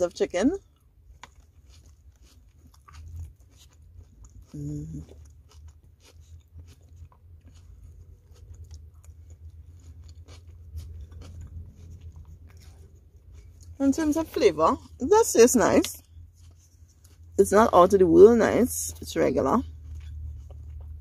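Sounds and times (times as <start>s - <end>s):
chewing with wet mouth clicks: 0.6s - 14.3s, 15.6s - 17.4s, 18.4s - 21.0s.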